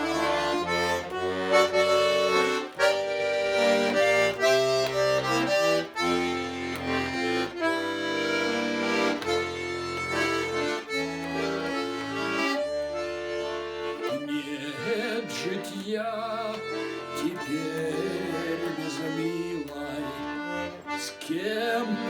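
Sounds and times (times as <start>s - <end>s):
folk instrumental melody over chords: 0.0s - 22.0s.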